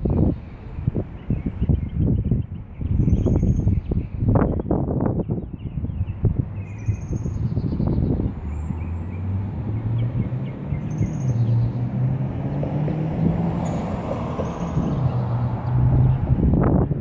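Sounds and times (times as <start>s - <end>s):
birds chirping: 0.0s - 16.4s.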